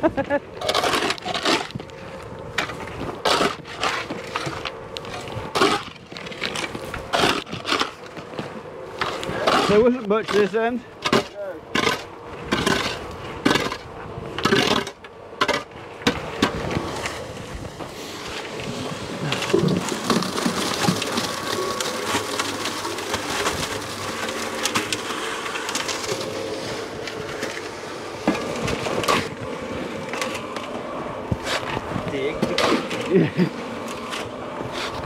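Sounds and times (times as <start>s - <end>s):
cement mixer running: 0.1s - 35.0s
concrete and gravel tumbling: 0.1s - 35.0s.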